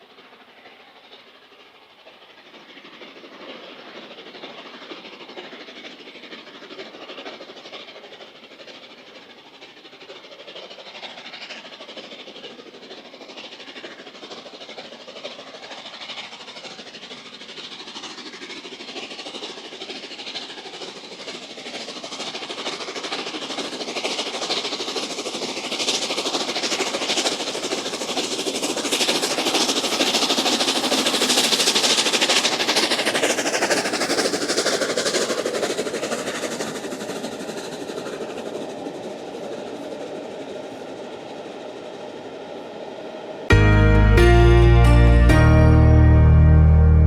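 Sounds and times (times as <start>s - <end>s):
steam train running on rails: 0.0s - 47.0s.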